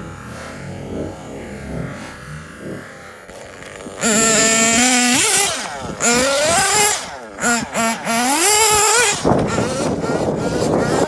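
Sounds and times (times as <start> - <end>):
small nitro engine revving: 0.0 - 11.0.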